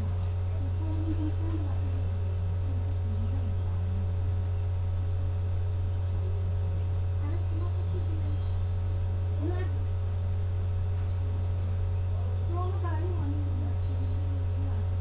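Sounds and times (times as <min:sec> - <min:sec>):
faint wavering sounds: 0:00.0 - 0:15.0
low electrical hum: 0:00.0 - 0:15.0.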